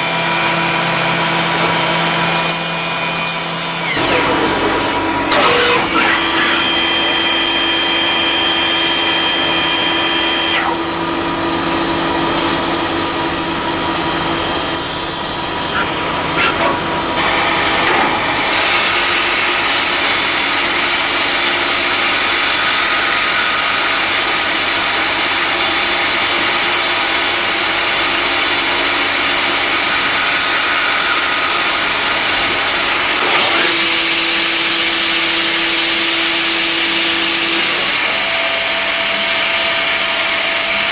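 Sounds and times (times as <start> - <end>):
lathe cutting metal hiss and whine: 0.0 - 40.9.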